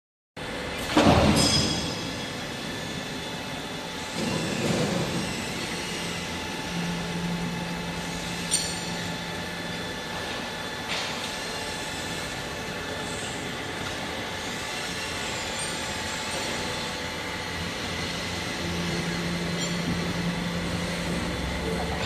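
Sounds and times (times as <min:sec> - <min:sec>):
factory machinery din: 0:00.4 - 0:22.0.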